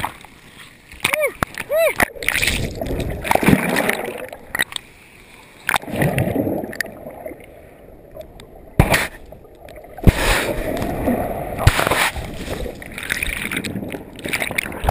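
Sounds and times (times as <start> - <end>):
water splashing and sloshing: 0.0 - 14.9.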